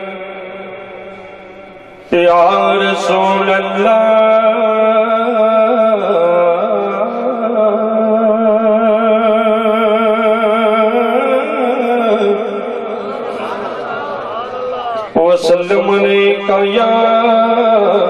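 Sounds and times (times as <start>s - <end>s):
man singing unaccompanied: 0.0s - 12.7s, 15.1s - 18.0s.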